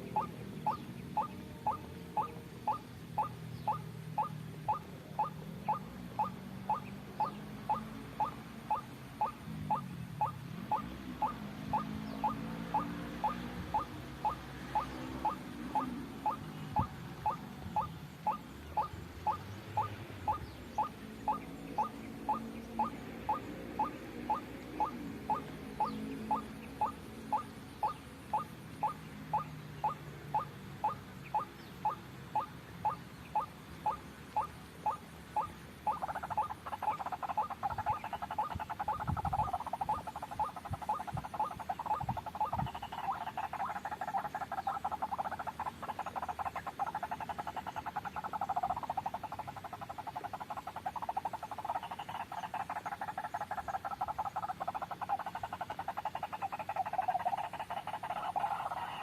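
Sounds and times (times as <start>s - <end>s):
bird chattering: 0.0s - 59.0s.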